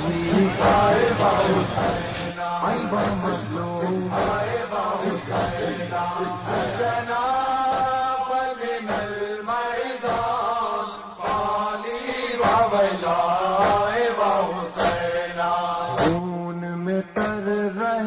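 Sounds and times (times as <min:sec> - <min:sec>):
person chanting a lament: 0:00.0 - 0:18.0.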